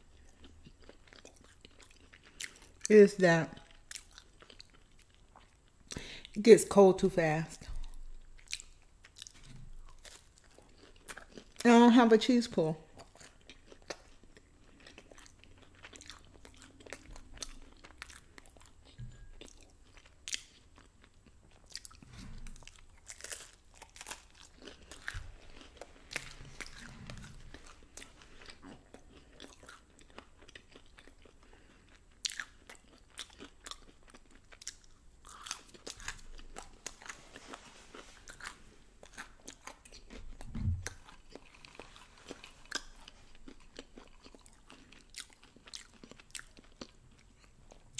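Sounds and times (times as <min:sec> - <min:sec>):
chewing crisp pizza: 0:00.0 - 0:06.4, 0:07.5 - 0:47.9.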